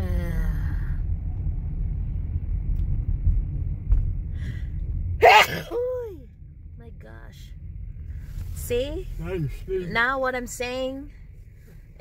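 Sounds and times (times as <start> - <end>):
car driving rumble from inside: 0.0 - 12.0.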